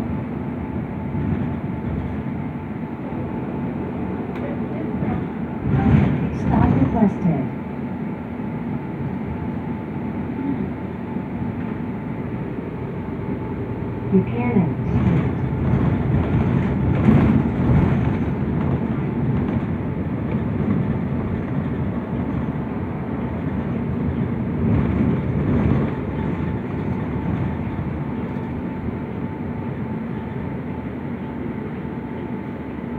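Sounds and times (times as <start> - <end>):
bus engine and road rumble: 0.0 - 32.9.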